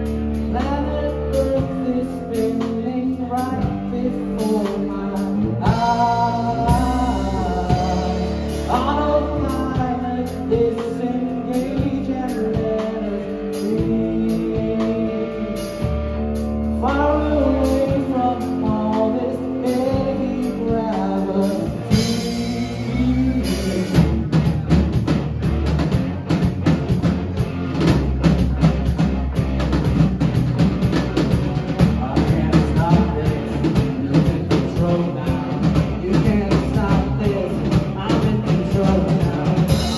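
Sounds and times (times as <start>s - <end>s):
person singing: 0.0s - 25.0s, 31.0s - 39.9s
live rock band playing: 0.0s - 39.9s.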